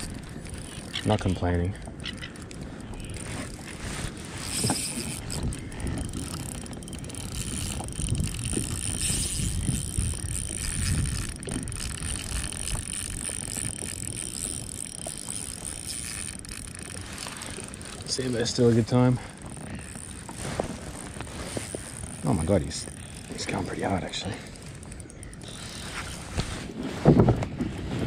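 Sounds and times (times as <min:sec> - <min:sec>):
fishing reel gears whirring: 0:00.0 - 0:26.8
low rumbling handling noise: 0:00.0 - 0:28.0.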